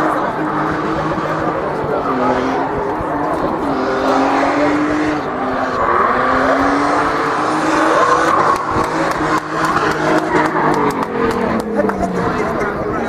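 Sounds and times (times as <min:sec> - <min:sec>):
car engine revving hard: 0:00.0 - 0:13.0
tyres spinning on tarmac: 0:00.0 - 0:13.0.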